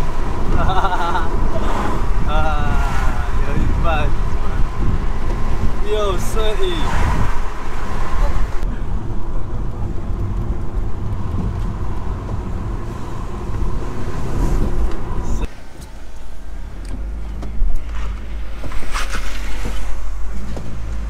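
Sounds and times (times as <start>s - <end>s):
car engine running: 0.0s - 21.0s
road noise: 0.0s - 21.0s.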